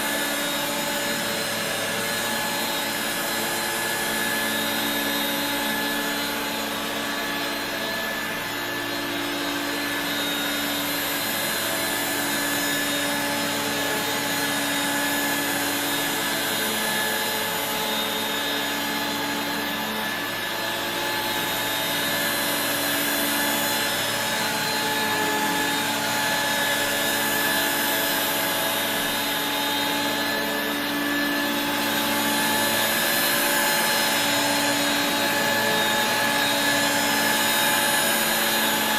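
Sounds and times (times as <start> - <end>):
beater brush hum: 0.0 - 38.9
vacuum motor whine: 0.0 - 38.9.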